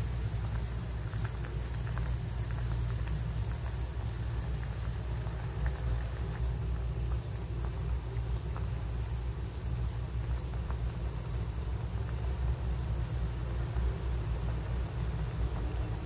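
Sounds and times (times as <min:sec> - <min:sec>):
faint ticks from simmering pot: 0:00.0 - 0:16.0
low hum and rumble: 0:00.0 - 0:16.0.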